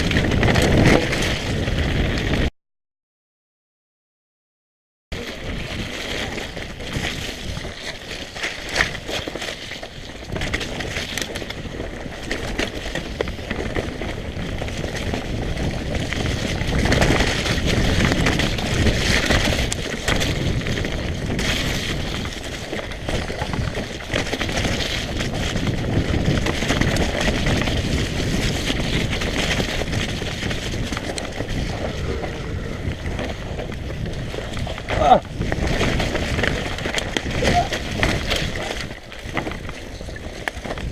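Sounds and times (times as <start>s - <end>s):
bike tyres on dirt: 0.0s - 2.5s, 5.2s - 40.9s
wind buffeting microphone: 0.0s - 2.5s, 5.2s - 40.9s.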